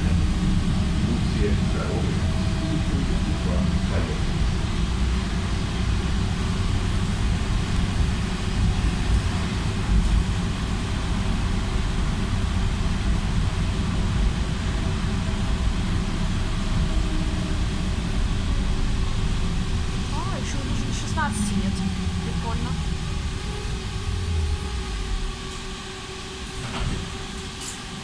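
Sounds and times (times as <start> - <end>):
tram wheels rumbling on rails: 0.0 - 28.0.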